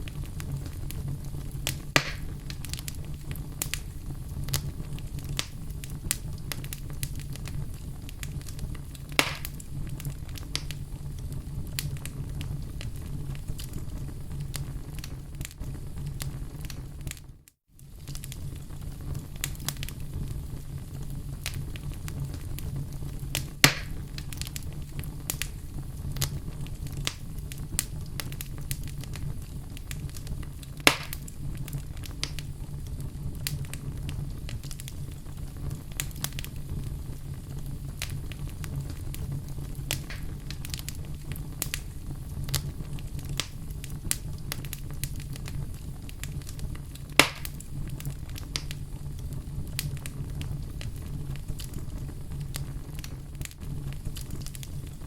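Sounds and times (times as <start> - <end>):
fire popping: 0.0 - 55.0
fireplace fire crackling: 0.0 - 55.0.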